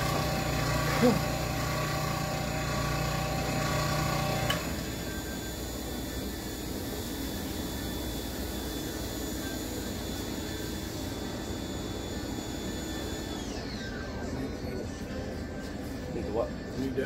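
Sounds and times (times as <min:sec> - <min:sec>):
electric power tool motor whining: 0:00.0 - 0:14.8.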